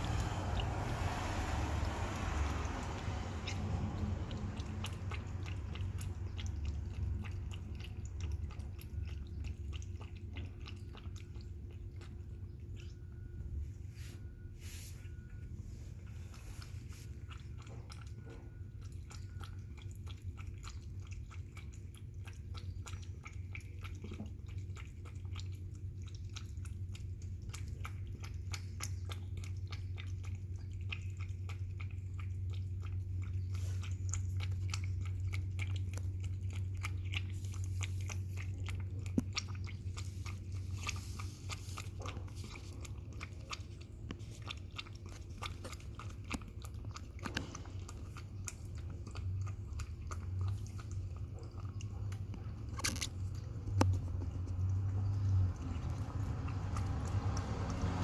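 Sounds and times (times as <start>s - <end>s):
cat chewing wet food: 0.0s - 58.0s
steady low hum: 0.0s - 58.0s.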